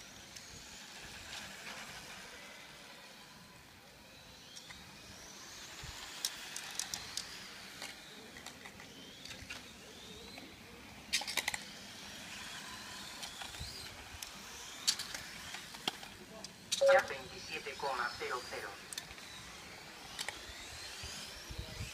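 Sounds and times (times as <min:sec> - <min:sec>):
rc car motor whine: 0:00.0 - 0:21.9.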